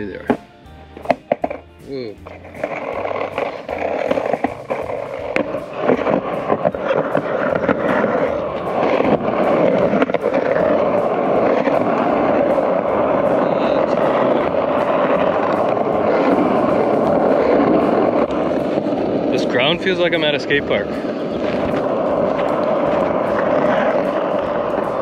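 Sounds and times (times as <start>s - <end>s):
skateboard rolling on concrete: 0.0s - 25.0s.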